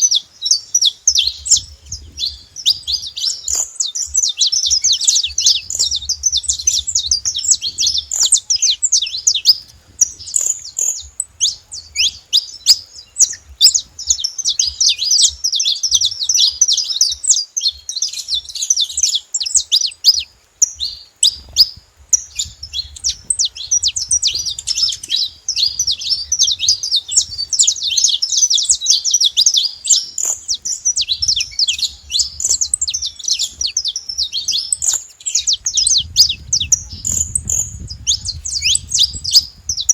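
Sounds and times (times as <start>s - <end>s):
finches singing: 0.0s - 39.9s.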